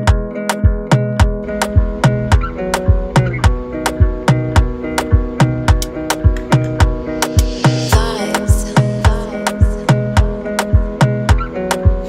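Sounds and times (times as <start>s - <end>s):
plucked guitar riff: 0.0s - 12.0s
steady drum beat: 0.0s - 12.0s.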